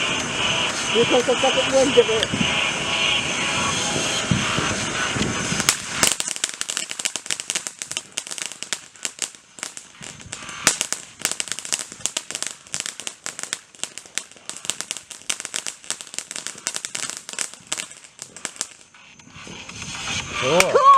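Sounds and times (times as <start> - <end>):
firework bang: 0.0 - 20.7
firework crackling pops: 0.0 - 20.9.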